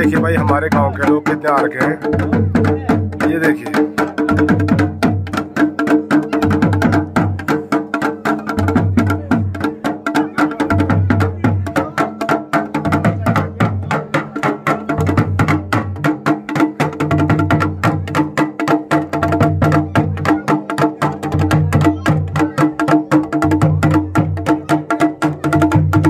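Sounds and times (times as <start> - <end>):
fast drumming: 0.0 - 26.0.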